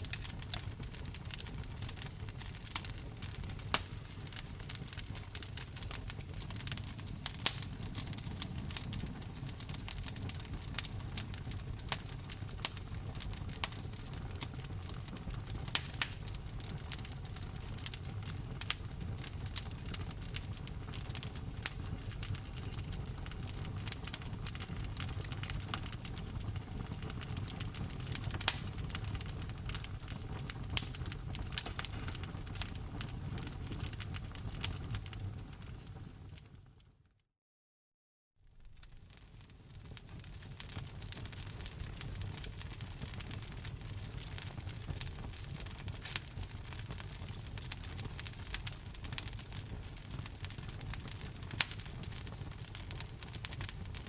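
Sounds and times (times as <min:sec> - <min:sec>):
fire popping: 0:00.0 - 0:36.7, 0:38.5 - 0:54.0
low rumble of flame: 0:00.0 - 0:36.8, 0:38.5 - 0:54.0
wood fire crackling: 0:00.0 - 0:36.8, 0:38.5 - 0:54.0.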